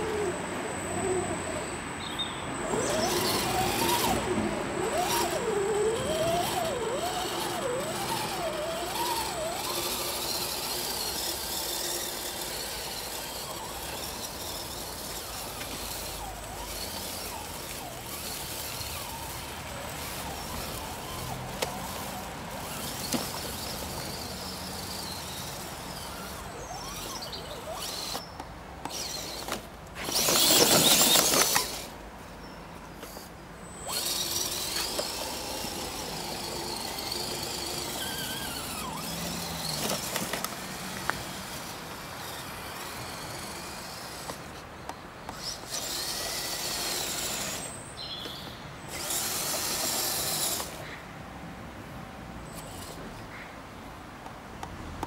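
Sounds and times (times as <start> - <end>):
toy truck motor whining: 0.0 - 51.0, 52.4 - 53.2.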